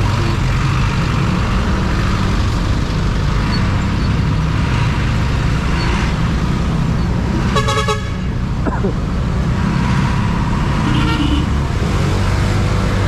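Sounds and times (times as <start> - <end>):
low rumble of traffic engines: 0.0 - 13.0
motorcycle engine and road noise: 0.0 - 13.0.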